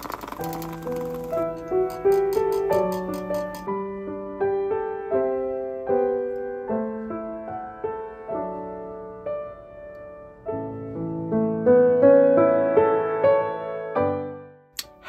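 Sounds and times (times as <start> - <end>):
slow solo piano: 0.0 - 14.6.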